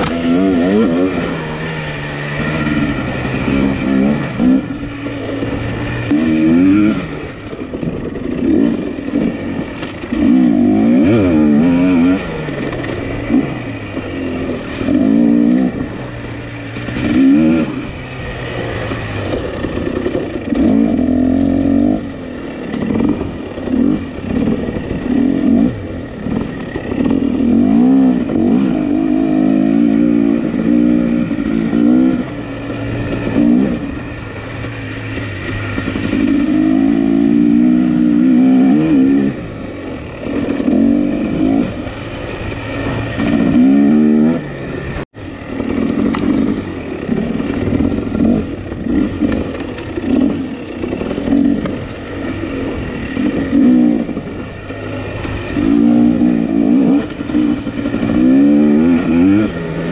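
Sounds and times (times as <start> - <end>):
two-stroke dirt bike revving: 0.0 - 59.9.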